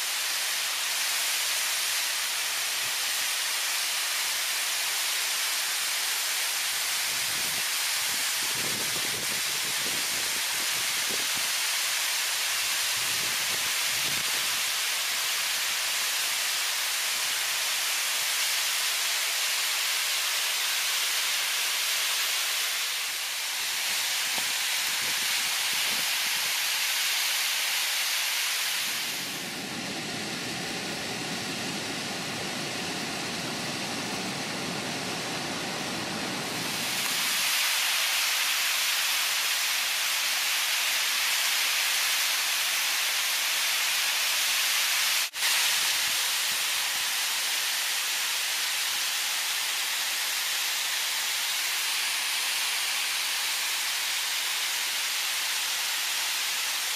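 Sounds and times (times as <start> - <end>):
waterfall rushing over rock: 0.0 - 56.9.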